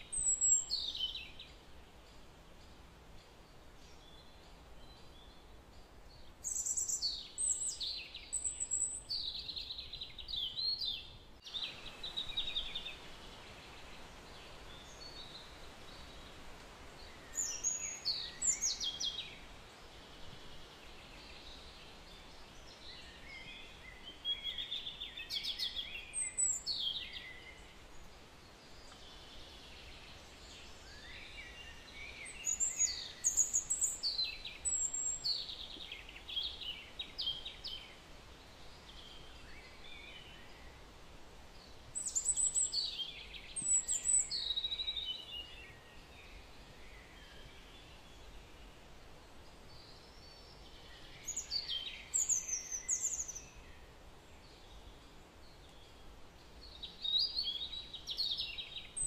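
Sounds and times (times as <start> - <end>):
birds chirping and trilling: 0.0 - 59.0
steady low hiss: 0.0 - 59.0.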